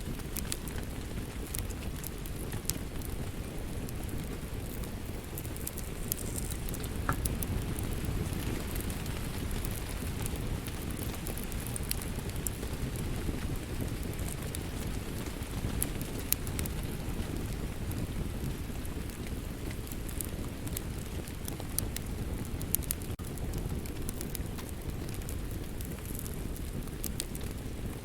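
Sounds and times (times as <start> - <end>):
fire pops and snaps: 0.0 - 28.0
wood fire crackling: 0.0 - 28.0.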